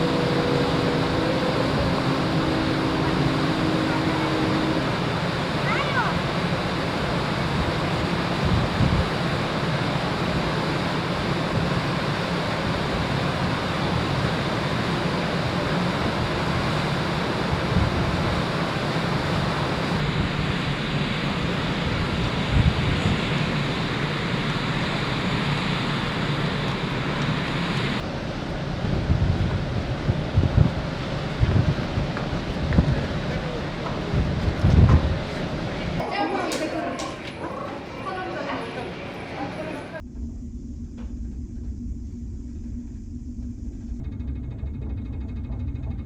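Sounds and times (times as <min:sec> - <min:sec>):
rushing sea water: 0:00.0 - 0:40.0
wind buffeting: 0:00.0 - 0:46.0.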